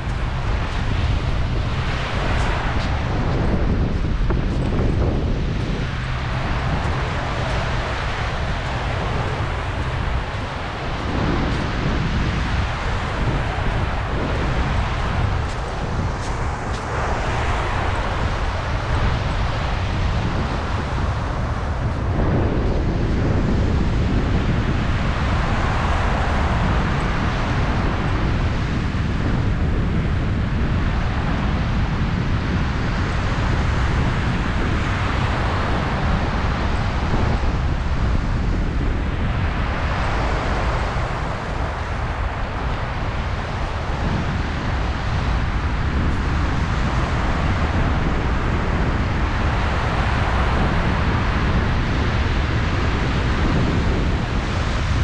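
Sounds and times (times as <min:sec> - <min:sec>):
surf washing on beach: 0:00.0 - 0:55.0
wind buffeting microphone: 0:00.0 - 0:55.0.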